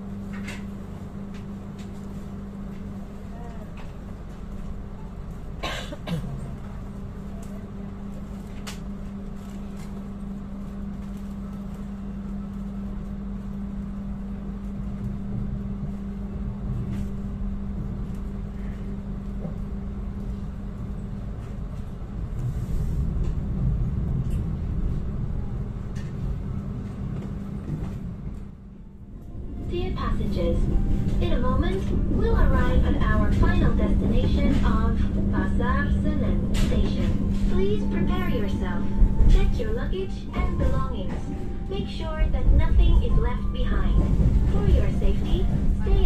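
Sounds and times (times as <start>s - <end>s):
steady hum inside train: 0.0s - 46.0s
train wheels rumbling: 0.0s - 46.0s.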